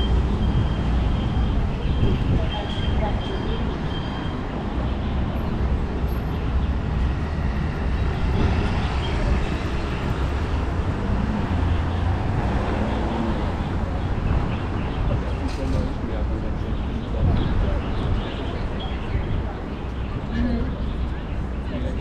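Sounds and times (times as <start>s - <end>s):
people's voices: 0.0s - 6.6s, 8.1s - 22.0s
passing vehicles: 0.0s - 22.0s.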